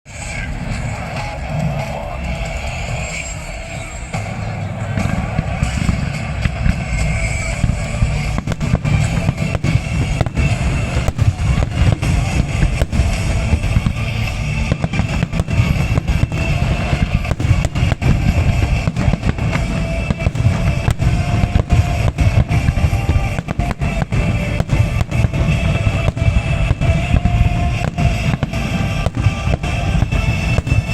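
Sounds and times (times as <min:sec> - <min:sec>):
fireworks bangs: 0:00.1 - 0:30.9
loud music with drums and guitar: 0:00.6 - 0:30.9.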